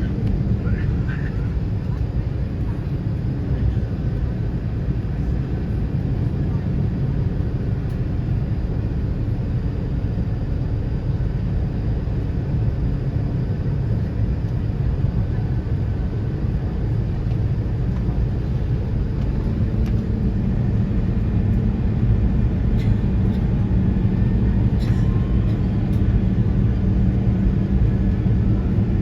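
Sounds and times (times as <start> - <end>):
jet engine rumble: 0.0 - 29.0.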